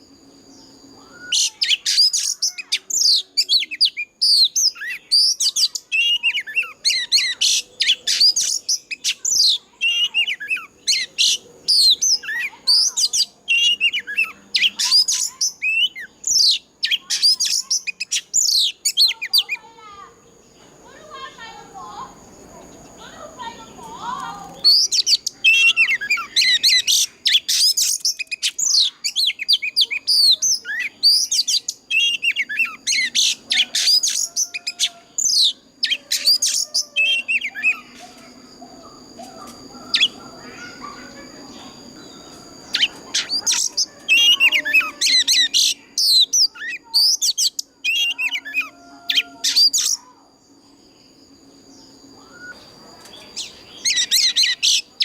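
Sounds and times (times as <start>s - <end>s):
faint high whine: 0.0s - 55.0s
magpie-robin singing: 0.7s - 19.9s, 22.7s - 50.1s, 51.7s - 55.0s.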